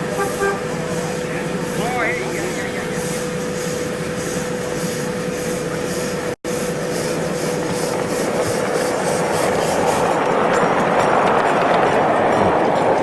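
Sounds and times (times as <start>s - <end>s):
rhythmic steam hiss: 0.0s - 13.0s.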